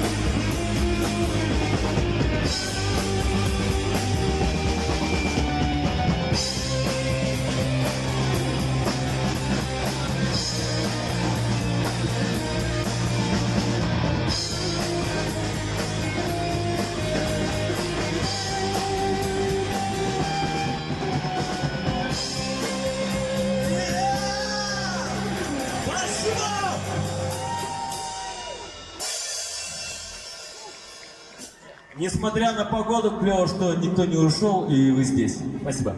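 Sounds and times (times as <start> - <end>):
bass and drums: 0.0 - 31.7.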